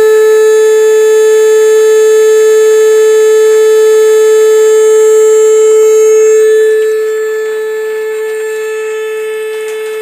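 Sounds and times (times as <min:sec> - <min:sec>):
bilge pump buzzing: 0:00.0 - 0:10.0.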